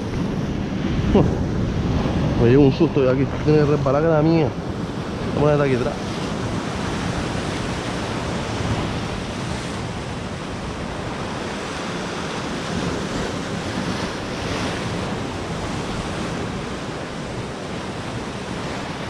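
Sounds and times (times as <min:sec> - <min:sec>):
surf breaking on rocks: 0:00.0 - 0:19.0
wind buffeting microphone: 0:00.0 - 0:19.0.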